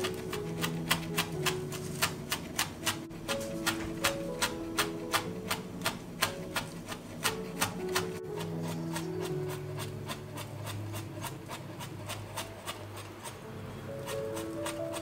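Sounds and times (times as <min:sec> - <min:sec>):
knife chopping on cutting board: 0:00.0 - 0:13.4, 0:14.0 - 0:15.0
soft background music: 0:00.0 - 0:15.0.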